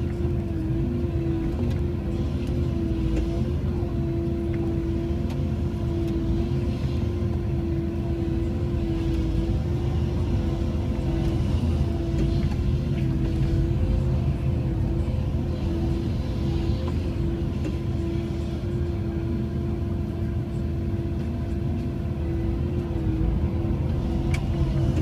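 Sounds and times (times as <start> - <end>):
engine low rumble: 0.0 - 25.0
excavator hydraulic whine: 0.0 - 25.0.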